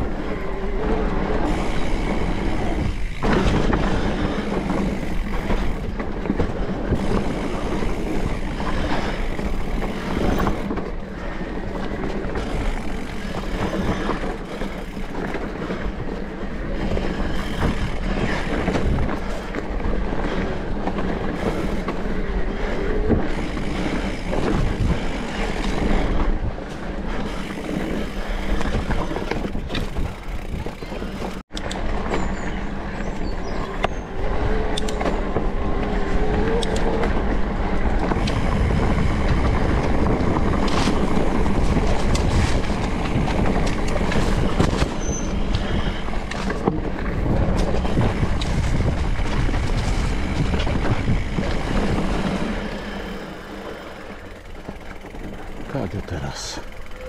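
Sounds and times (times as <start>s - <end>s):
bike rattling: 0.0s - 57.0s
bike tyre rumble: 0.0s - 57.0s.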